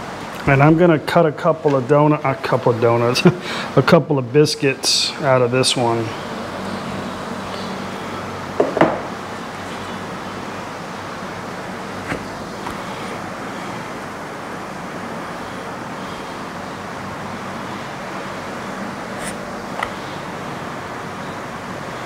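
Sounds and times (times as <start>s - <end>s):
electric fan whirring: 0.0s - 22.0s.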